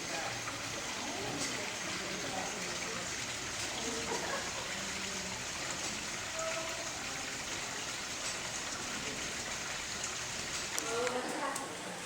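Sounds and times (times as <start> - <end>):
water running: 0.0 - 12.0.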